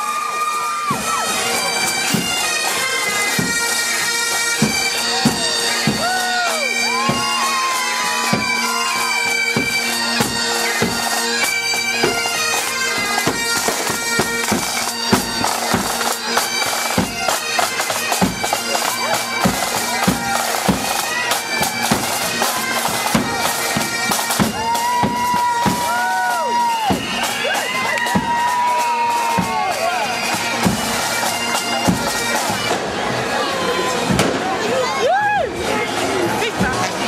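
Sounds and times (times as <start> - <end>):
bagpipes playing a tune: 0.0 - 37.0
drum beats: 0.1 - 37.0.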